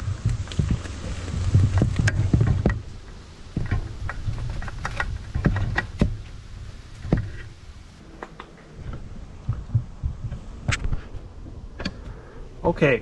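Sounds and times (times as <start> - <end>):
cable rustling: 0.0 - 12.2.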